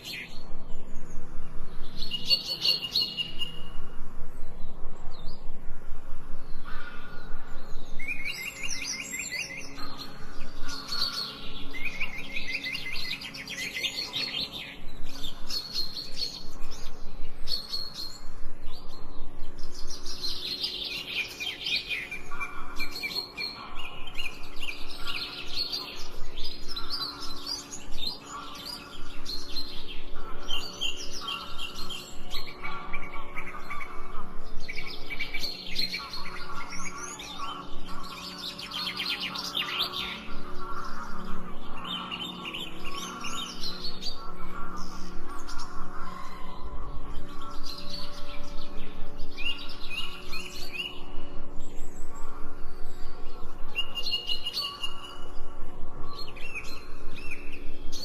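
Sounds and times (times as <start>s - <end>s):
songbirds chirping and trilling: 0.0s - 58.0s
steady low hum: 0.0s - 58.0s.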